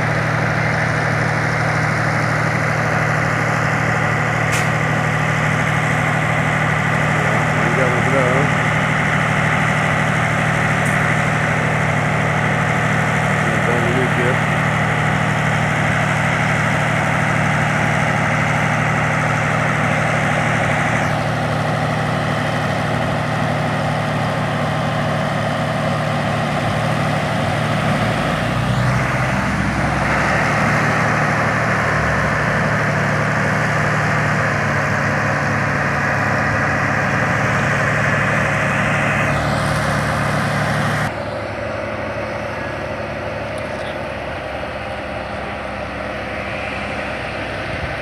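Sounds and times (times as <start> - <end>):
heavy vehicle engine running: 0.0 - 48.0.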